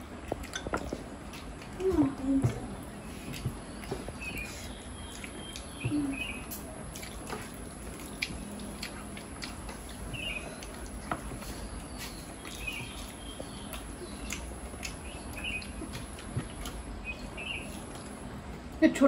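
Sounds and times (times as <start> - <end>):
chewing mouth clicks and lip smacks: 0.1 - 18.3
small birds chirping: 0.3 - 19.0.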